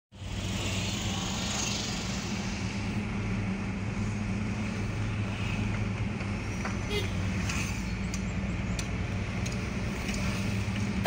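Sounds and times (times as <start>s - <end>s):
car engine hum: 0.2s - 11.0s.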